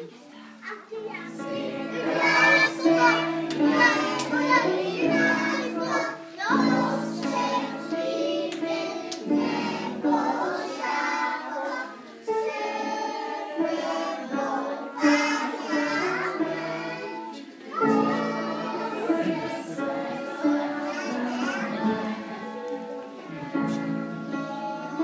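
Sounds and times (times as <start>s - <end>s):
children singing: 0.6s - 25.0s.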